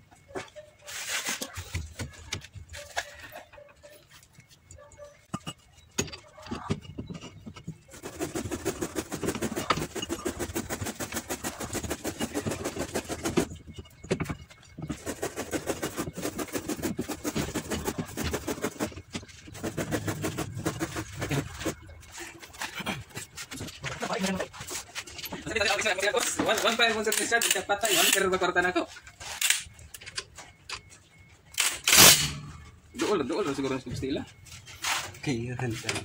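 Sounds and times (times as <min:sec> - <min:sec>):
metal rubbing and scraping: 0:00.2 - 0:36.0.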